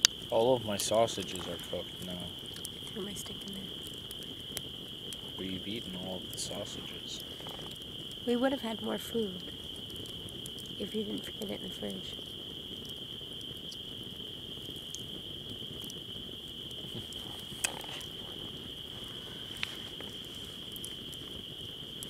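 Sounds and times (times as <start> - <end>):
campfire crackling and popping: 0.0 - 22.0
crickets chirping: 0.0 - 22.0.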